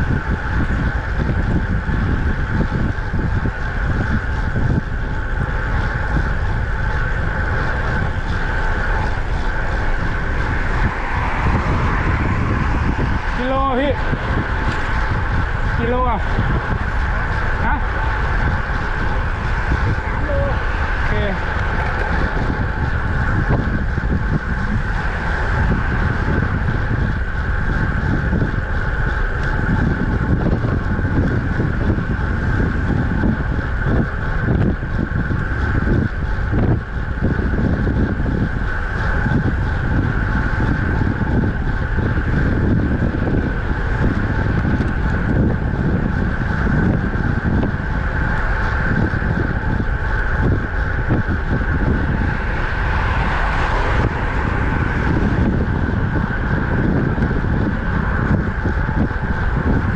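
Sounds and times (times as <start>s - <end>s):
rolling road noise: 0.0s - 59.9s
wind buffeting microphone: 0.0s - 59.9s.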